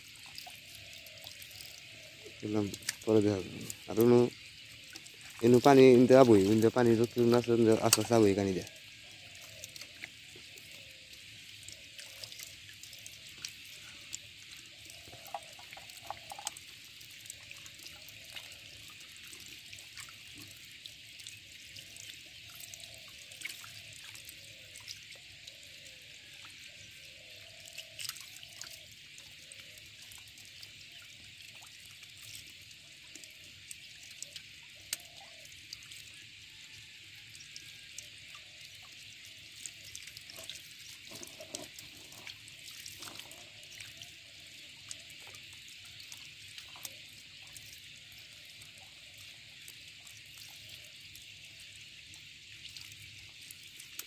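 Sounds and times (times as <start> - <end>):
small splashes: 0.0 - 54.0
water dripping from net: 0.0 - 54.0.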